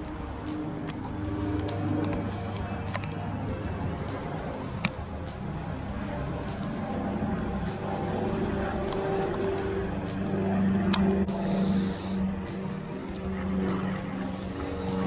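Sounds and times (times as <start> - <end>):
small bird chirping: 0.0 - 15.0
steady low hum: 0.0 - 15.0.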